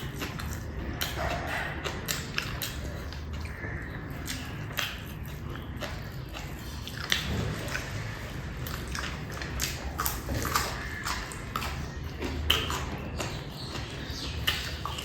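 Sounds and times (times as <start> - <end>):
chewing and mouth sounds: 0.0 - 15.0.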